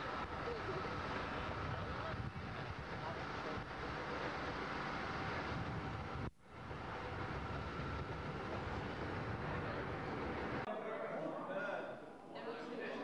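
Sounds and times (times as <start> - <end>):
fire pump rumbling: 0.0 - 10.7.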